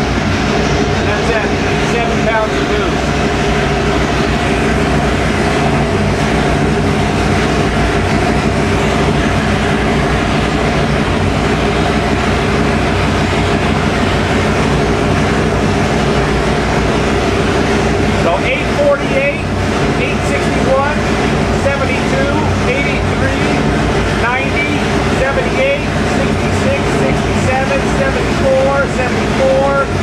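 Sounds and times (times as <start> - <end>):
engine running on dyno: 0.0 - 30.0.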